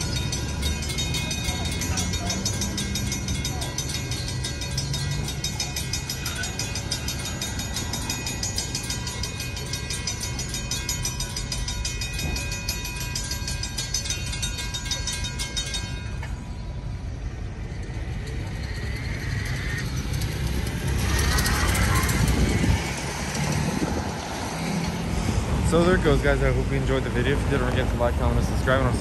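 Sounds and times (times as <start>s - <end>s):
railroad crossing bell ringing: 0.0s - 29.0s
train rumbling: 0.0s - 29.0s.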